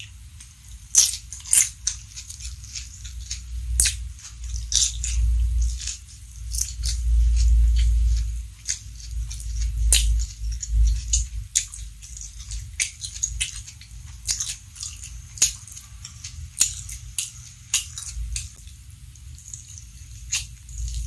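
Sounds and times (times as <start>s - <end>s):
chewing and biting food: 0.0s - 21.0s
wet mouth clicks: 0.4s - 18.7s, 19.4s - 21.0s.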